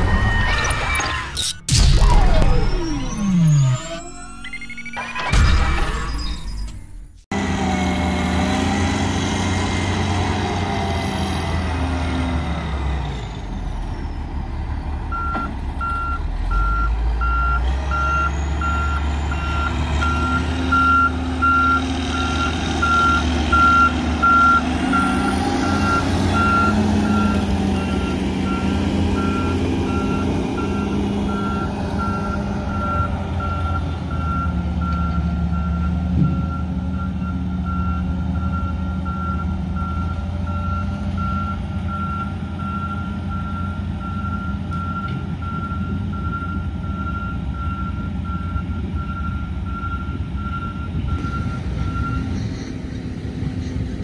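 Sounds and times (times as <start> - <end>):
reversing alarm beeping: 0.0 - 6.8, 15.1 - 52.7
diesel engine under load: 0.0 - 54.0.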